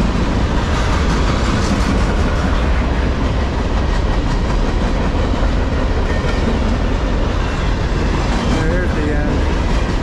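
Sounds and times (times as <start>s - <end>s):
freight cars rolling on rails: 0.0s - 10.0s.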